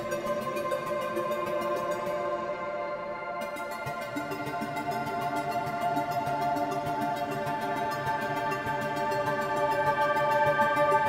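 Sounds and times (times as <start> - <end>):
electronic music with layered chords: 0.0 - 11.0.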